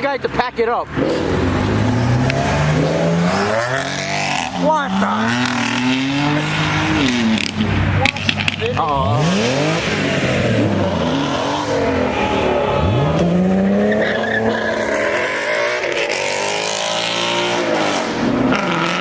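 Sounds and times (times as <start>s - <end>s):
car engine revving: 0.8s - 19.0s.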